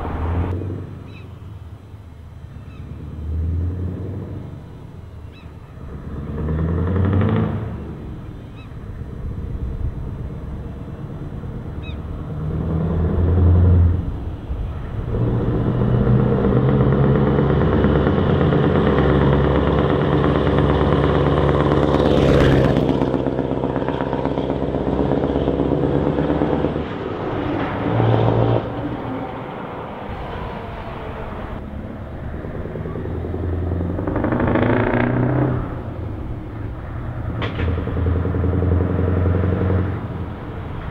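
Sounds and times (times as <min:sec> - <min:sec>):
truck engine driving past: 0:00.0 - 0:40.9.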